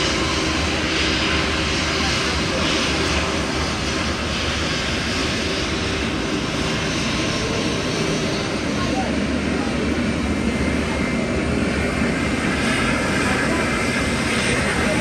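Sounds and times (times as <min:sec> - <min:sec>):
airliner engines running: 0:00.0 - 0:15.0.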